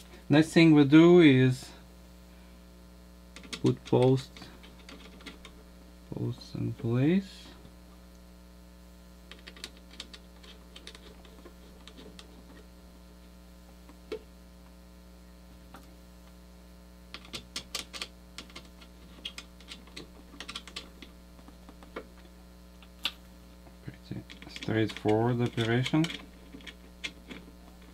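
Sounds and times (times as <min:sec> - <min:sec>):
low electrical hum: 0:00.0 - 0:27.9.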